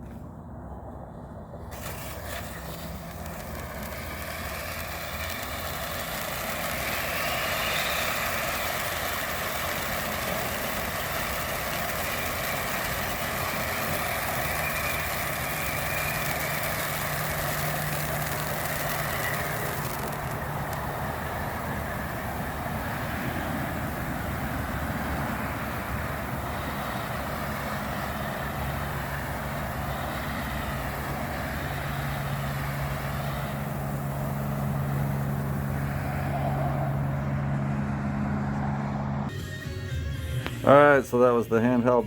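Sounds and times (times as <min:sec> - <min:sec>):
spinning firework hissing: 0:01.6 - 0:37.6.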